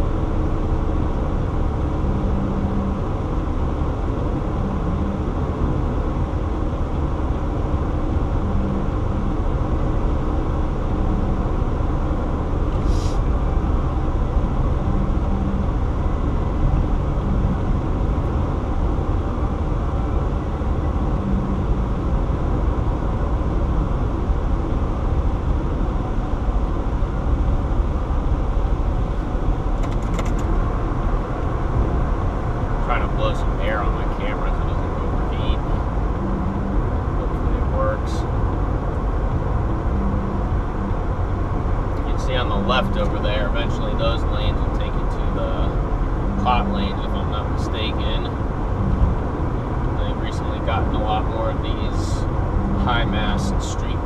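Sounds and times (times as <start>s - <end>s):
car engine hum: 0.0s - 54.0s.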